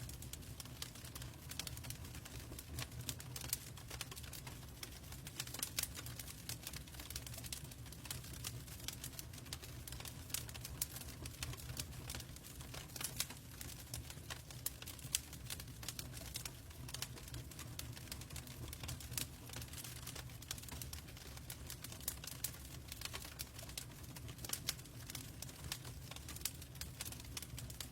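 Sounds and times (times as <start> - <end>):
log fire crackling: 0.0 - 27.9
low rumble of burning: 0.0 - 27.9.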